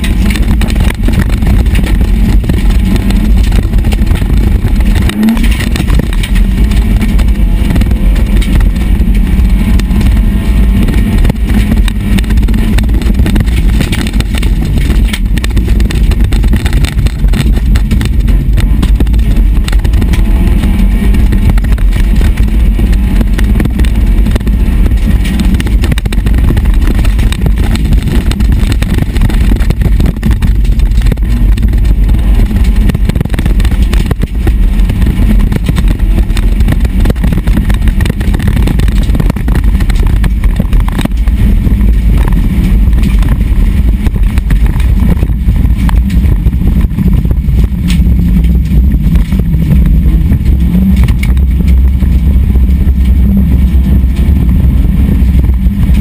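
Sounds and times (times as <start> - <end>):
knocks and rattles in car cabin: 0.0 - 56.0
rally car engine running hard: 0.0 - 56.0.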